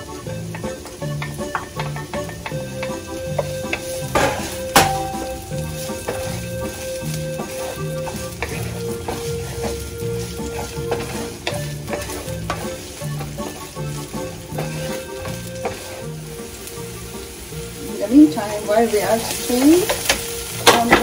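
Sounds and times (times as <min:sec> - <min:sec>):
onion sizzling in a frying pan: 0:00.0 - 0:21.0
wooden spatula scraping a pan: 0:00.0 - 0:21.0.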